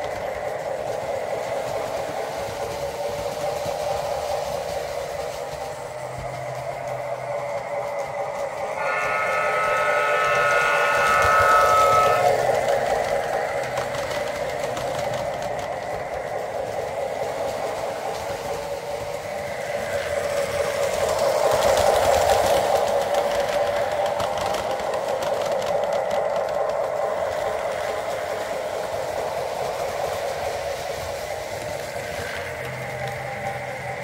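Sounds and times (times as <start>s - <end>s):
slot cars running: 0.0s - 34.0s
toy train rolling on track: 0.0s - 34.0s.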